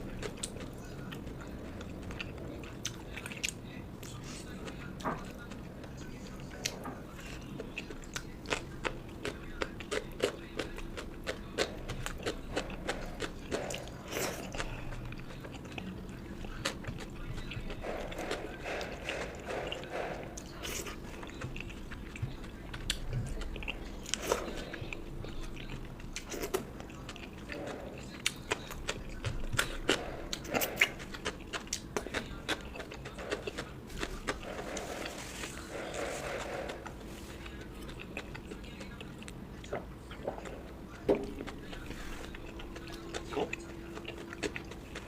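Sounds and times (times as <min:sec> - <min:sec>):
food crunching: 0:00.0 - 0:45.0
wet chewing and lip smacks: 0:07.6 - 0:45.0.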